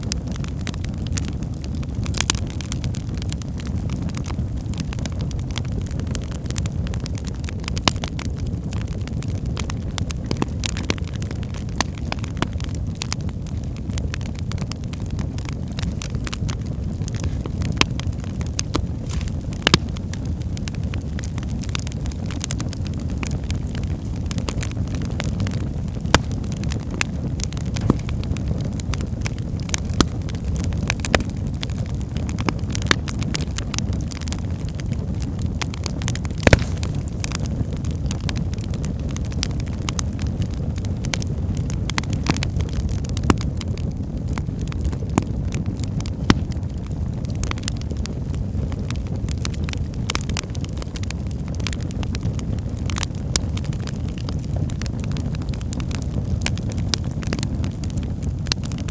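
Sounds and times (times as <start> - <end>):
fire flames rumbling: 0.0 - 58.9
logs crackling and popping: 0.0 - 58.9.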